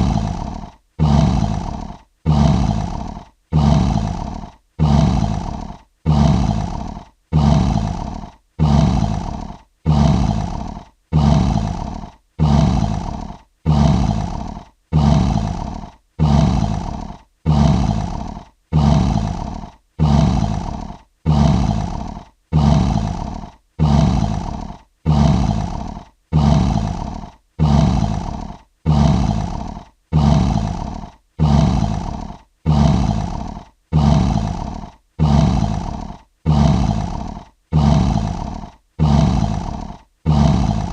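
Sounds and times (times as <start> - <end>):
lion roaring: 0.0 - 40.9.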